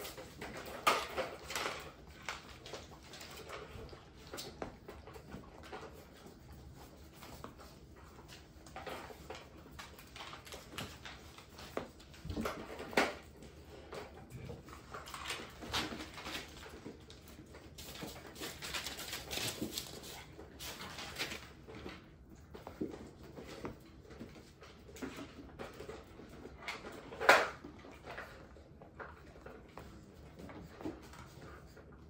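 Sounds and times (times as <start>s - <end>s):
puppies scuffling: 0.0s - 32.0s.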